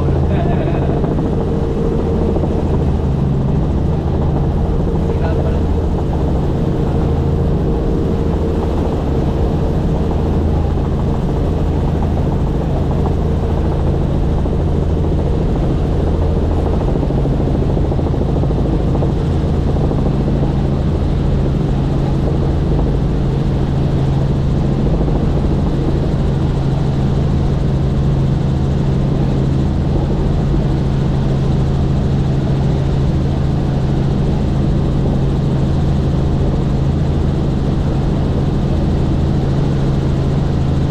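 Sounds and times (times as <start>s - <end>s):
helicopter rotor and turbine drone: 0.0s - 40.9s.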